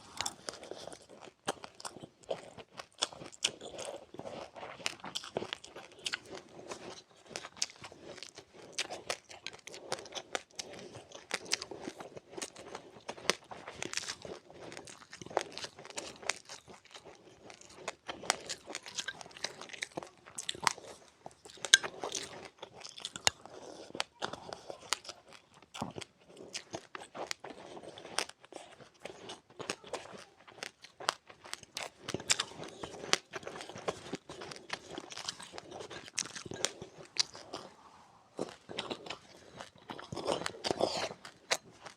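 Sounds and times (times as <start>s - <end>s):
person chewing crunchy seeds: 0.0s - 41.9s.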